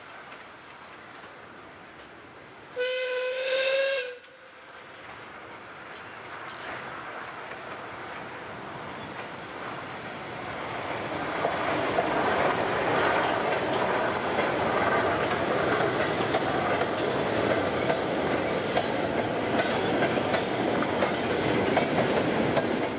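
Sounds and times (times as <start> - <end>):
train wagons rolling past: 0.0 - 3.1, 3.9 - 22.9
wheels clicking over rail joints: 4.2 - 22.9.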